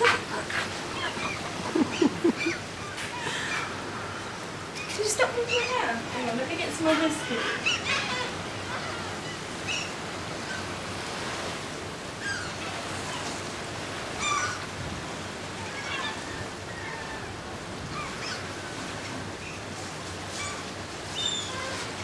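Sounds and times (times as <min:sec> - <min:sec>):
seagulls calling: 0:00.0 - 0:10.7, 0:12.2 - 0:22.0
sea: 0:00.0 - 0:22.0
wind: 0:00.0 - 0:22.0.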